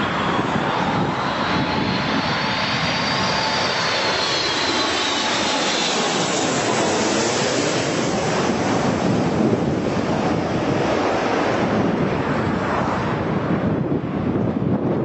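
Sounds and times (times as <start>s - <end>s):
jet airliner engines passing: 0.0s - 15.0s
wind buffeting microphone: 0.0s - 15.0s.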